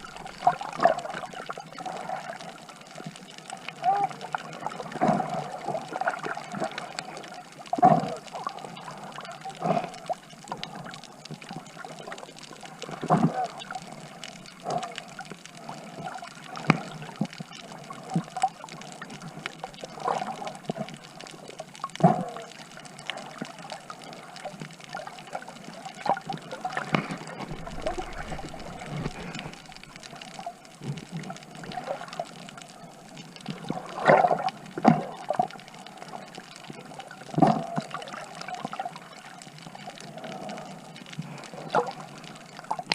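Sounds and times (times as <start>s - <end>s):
water splashing and trickling: 0.0s - 42.9s.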